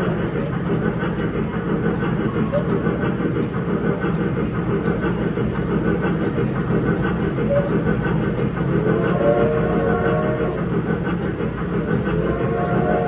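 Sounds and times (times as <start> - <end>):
train rattling rumble: 0.0 - 13.0.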